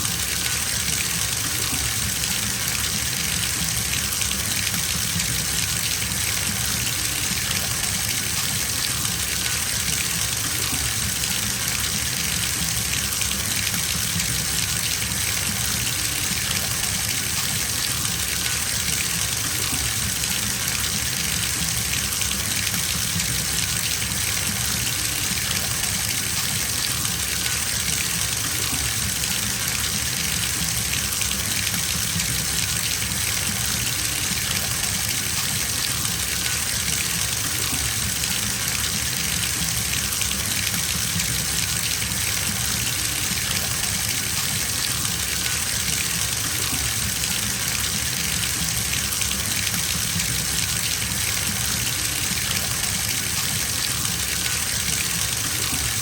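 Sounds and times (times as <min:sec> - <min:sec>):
water gushing from bathtub tap: 0:00.0 - 0:56.0.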